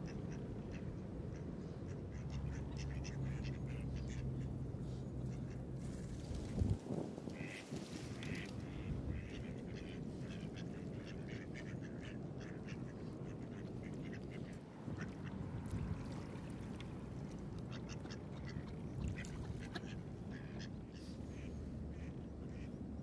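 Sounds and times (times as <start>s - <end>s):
ducks quacking: 0.1s - 4.6s, 7.3s - 22.8s.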